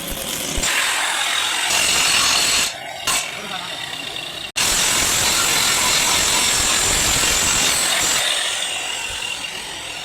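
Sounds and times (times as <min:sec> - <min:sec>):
power tool grinding: 0:00.0 - 0:10.0.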